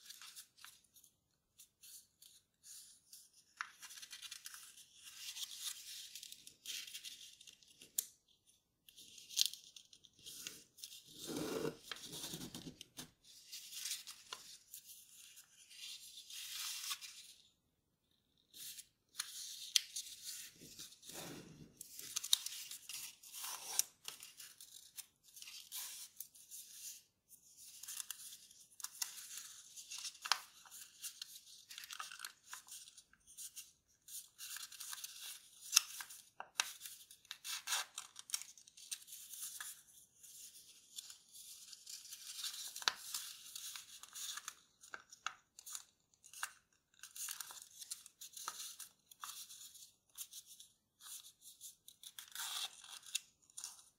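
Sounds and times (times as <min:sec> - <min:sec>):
paper rustling and crinkling: 0:00.0 - 0:08.1, 0:08.8 - 0:17.5, 0:18.5 - 0:27.0, 0:27.6 - 0:53.9.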